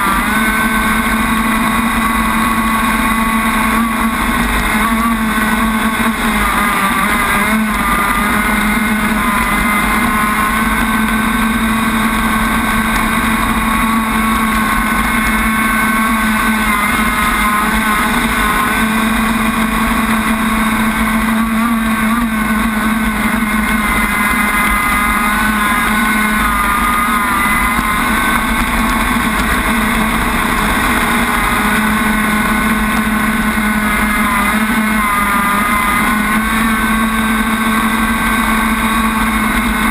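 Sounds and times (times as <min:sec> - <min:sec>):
rc boat motor running: 0:00.0 - 0:39.9
water rushing against hull: 0:00.0 - 0:39.9.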